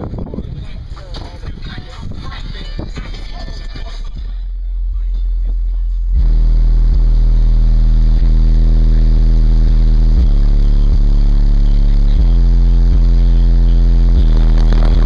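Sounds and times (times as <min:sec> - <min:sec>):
deep bass notes from subwoofers: 0:01.4 - 0:15.0.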